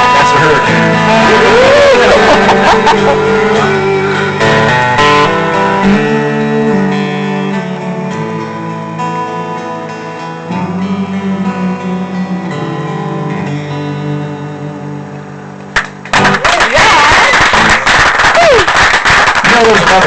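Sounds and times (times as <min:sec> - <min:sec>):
guitar playing chords: 0:00.0 - 0:16.6, 0:17.2 - 0:18.0.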